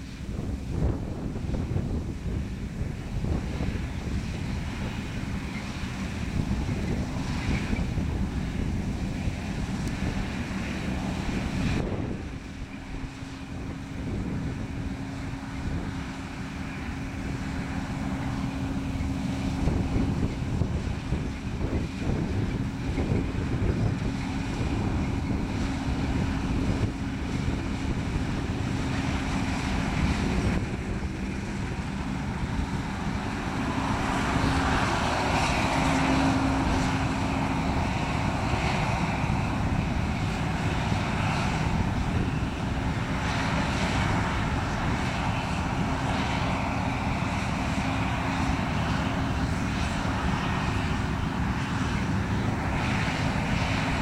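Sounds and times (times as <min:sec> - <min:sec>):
combine harvester engine drone: 0:00.0 - 0:54.0
low hum of threshing drives: 0:00.0 - 0:54.0.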